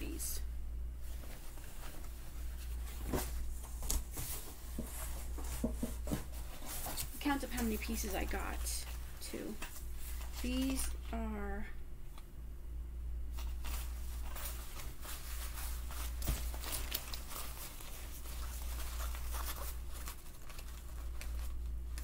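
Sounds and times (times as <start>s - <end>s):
fabric rustling: 1.0s - 11.0s, 13.3s - 22.0s.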